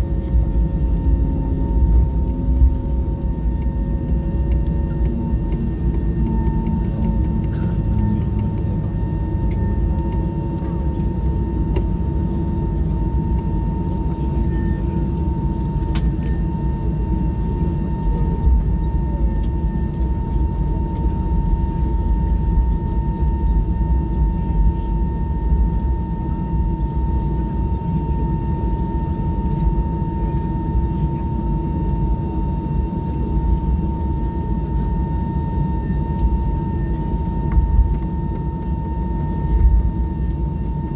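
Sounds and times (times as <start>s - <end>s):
aircraft cabin low rumble: 0.0s - 40.9s
constant high whine: 0.0s - 40.9s.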